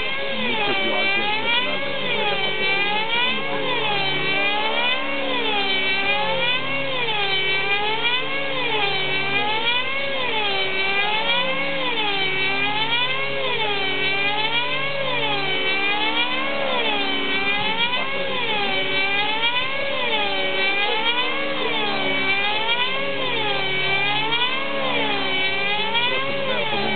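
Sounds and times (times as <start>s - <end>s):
model airplane motor and propeller: 0.0s - 26.9s.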